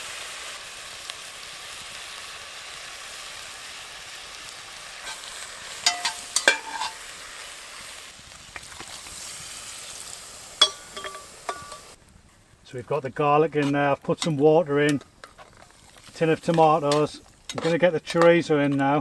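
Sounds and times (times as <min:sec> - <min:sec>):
meat and onions sizzling in oil: 0:00.0 - 0:12.6, 0:13.4 - 0:19.0.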